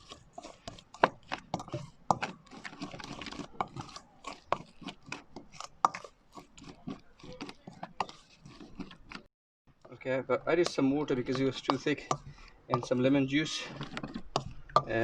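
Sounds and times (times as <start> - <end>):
soft squelching: 0.0 - 15.0.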